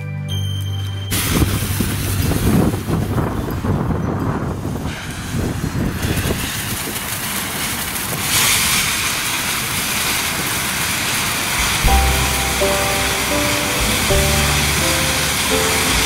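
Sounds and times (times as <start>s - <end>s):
firework fountain hissing: 0.4s - 16.0s.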